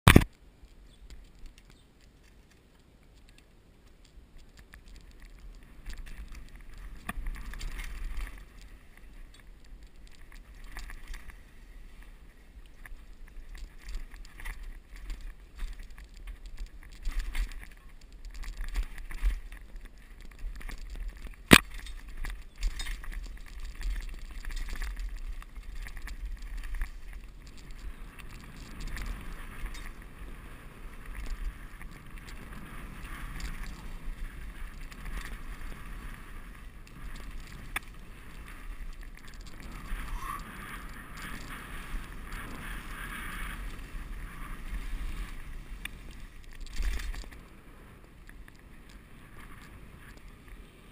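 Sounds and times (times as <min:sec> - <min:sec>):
tyres over dirt and stones: 0:00.0 - 0:50.9
bike rattling: 0:00.1 - 0:50.9.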